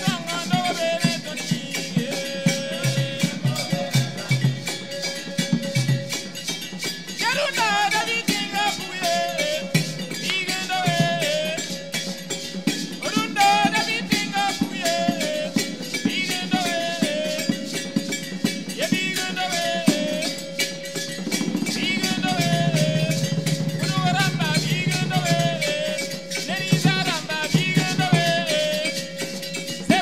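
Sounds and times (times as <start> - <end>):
group singing: 0.0 - 30.0
hand drums: 0.0 - 30.0.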